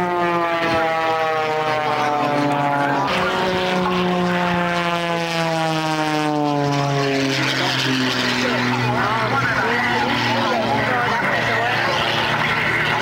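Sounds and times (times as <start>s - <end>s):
propeller plane droning: 0.0s - 13.0s.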